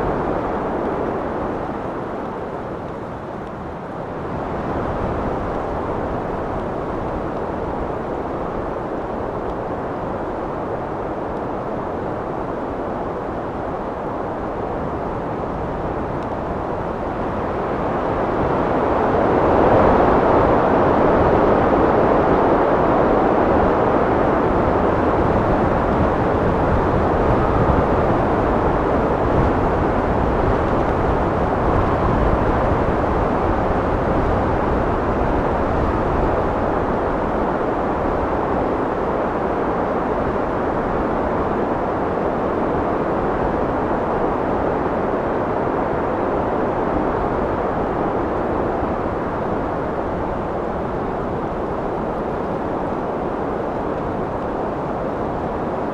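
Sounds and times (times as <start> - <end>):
steady wind blowing: 0.0 - 55.9.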